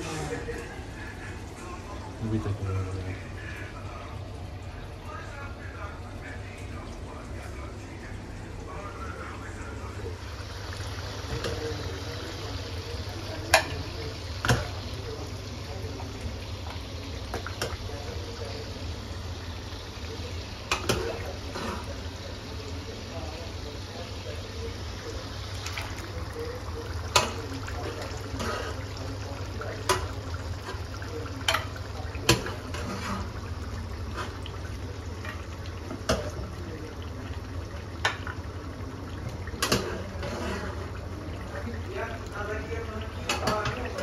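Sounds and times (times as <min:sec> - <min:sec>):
curry simmering and bubbling: 0:03.1 - 0:44.0.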